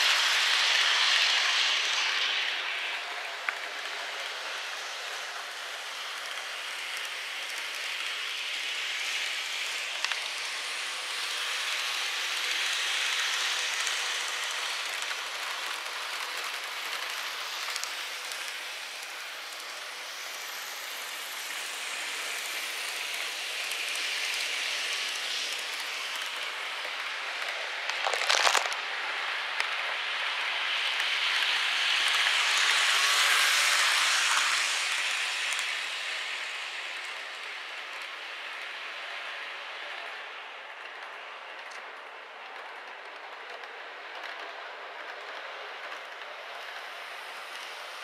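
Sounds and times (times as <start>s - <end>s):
model train wheels and motors: 0.0s - 48.0s.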